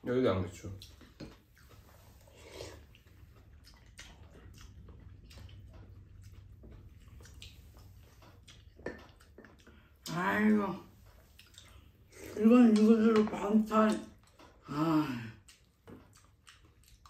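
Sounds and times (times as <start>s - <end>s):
low steady hum: 0.0s - 17.0s
chewing: 0.5s - 17.0s.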